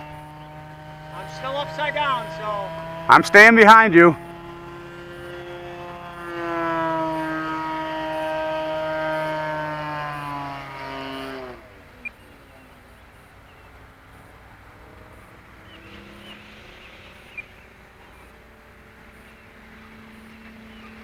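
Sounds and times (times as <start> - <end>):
distant plane drone: 0.0 - 21.0
model airplane propeller drone: 0.0 - 21.0.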